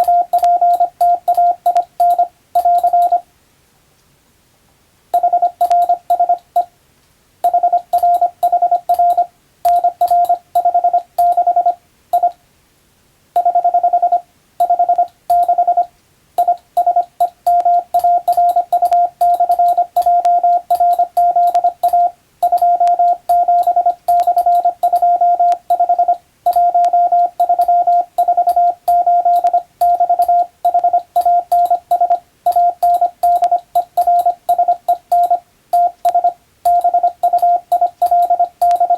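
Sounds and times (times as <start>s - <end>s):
morse code beeping: 0.0s - 3.2s, 5.2s - 6.7s, 7.4s - 12.4s, 13.4s - 38.9s.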